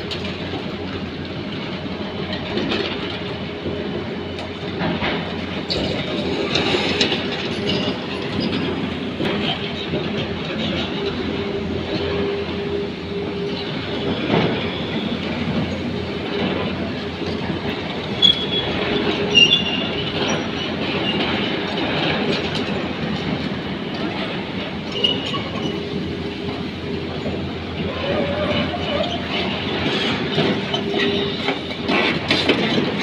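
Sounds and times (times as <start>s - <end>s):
excavator track chains clattering: 0.0s - 12.6s, 13.3s - 33.0s
high squeals from tracks: 4.2s - 33.0s.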